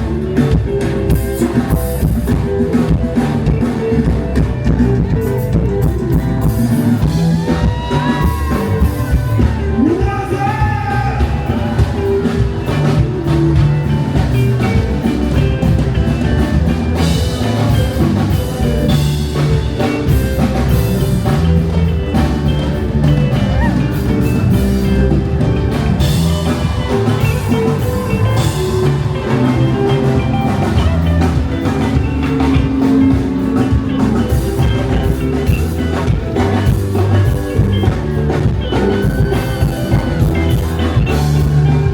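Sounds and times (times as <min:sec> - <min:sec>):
live band with drums and guitar: 0:00.0 - 0:41.9.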